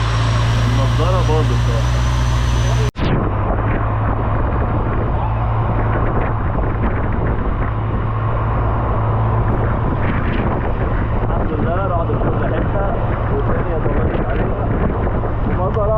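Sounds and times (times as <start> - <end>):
boat engine humming: 0.0 - 15.9.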